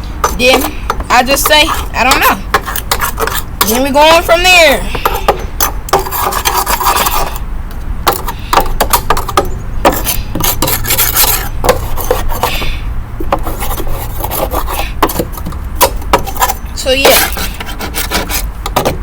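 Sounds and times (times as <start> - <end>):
hand scraping and rubbing: 0.0 - 19.0
steady low hum: 0.0 - 19.0.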